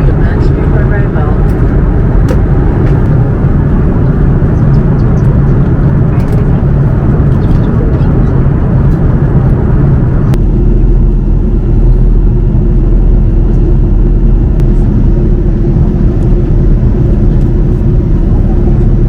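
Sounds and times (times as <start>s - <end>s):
airliner cabin rumble: 0.0s - 19.0s
steady hum: 0.0s - 19.0s.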